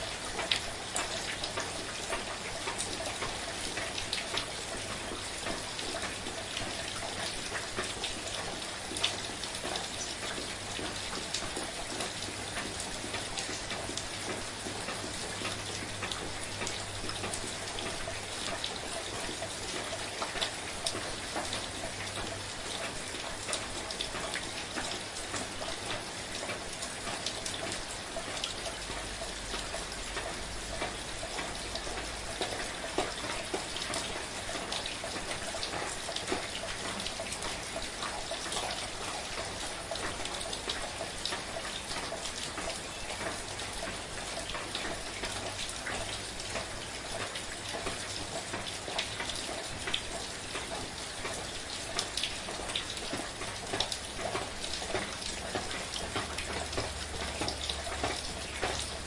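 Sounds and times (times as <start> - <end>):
soft rain pattering: 0.0 - 59.0.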